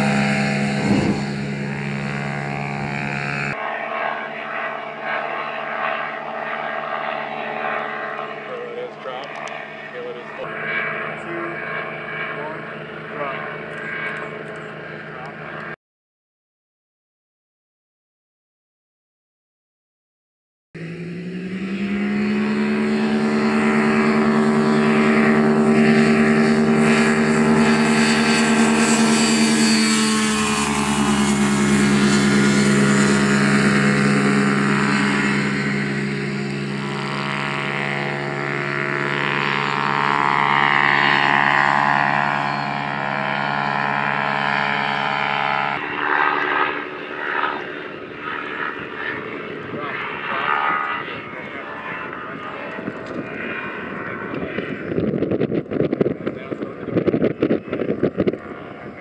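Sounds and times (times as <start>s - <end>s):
aircraft engine droning overhead: 0.0s - 15.8s, 20.8s - 59.0s.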